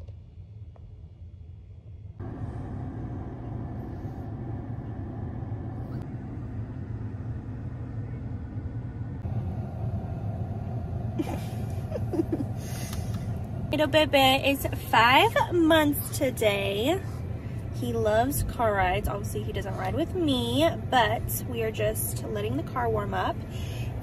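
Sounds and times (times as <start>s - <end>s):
car engine hum inside cabin: 1.7s - 24.0s.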